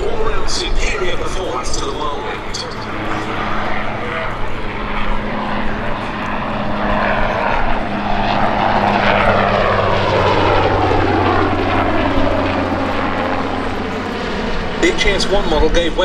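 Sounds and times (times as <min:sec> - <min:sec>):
helicopter passing overhead: 0:00.0 - 0:16.0.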